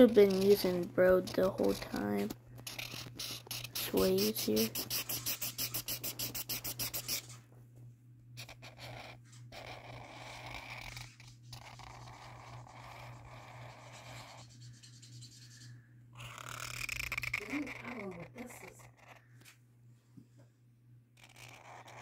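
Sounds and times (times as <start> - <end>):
marker scribbling on paper: 0.0 - 7.4, 8.4 - 19.2, 21.2 - 22.0.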